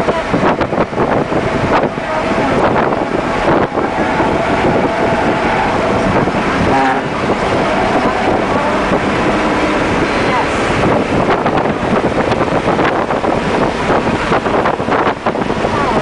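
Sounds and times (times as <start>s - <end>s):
car engine at speed: 0.0s - 16.0s
wind and road noise: 0.0s - 16.0s.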